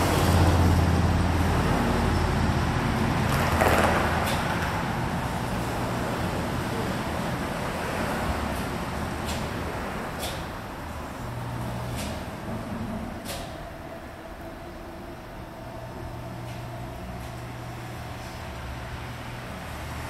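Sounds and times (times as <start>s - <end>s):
lathe machine hum and rumble: 0.0s - 20.0s.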